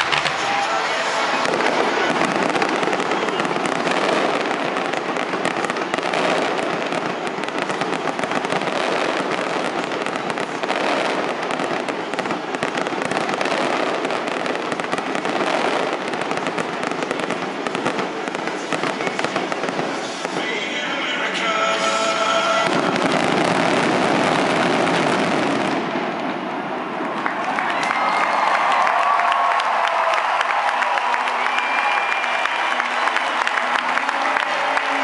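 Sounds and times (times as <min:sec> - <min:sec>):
fireworks popping and crackling: 0:00.0 - 0:35.0.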